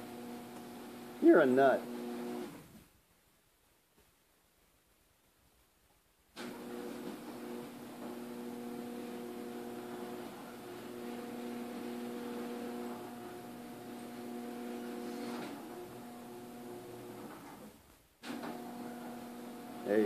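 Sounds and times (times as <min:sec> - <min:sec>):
garage door opener motor humming: 0:00.0 - 0:02.6, 0:06.4 - 0:20.0.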